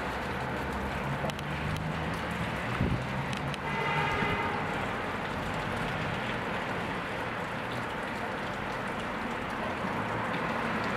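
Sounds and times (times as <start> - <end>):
steady rain falling: 0.0 - 10.9.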